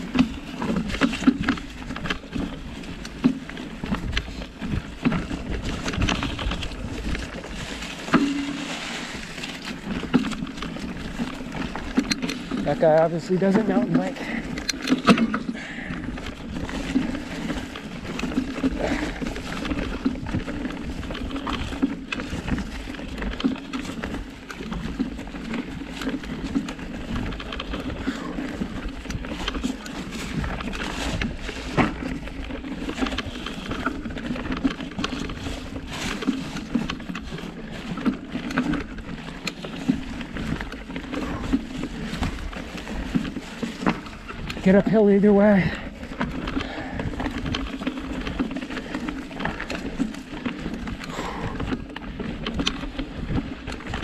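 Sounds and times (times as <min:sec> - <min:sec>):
bike rattling over rocks: 0:00.0 - 0:54.0
bike tyre rumble: 0:00.0 - 0:54.0.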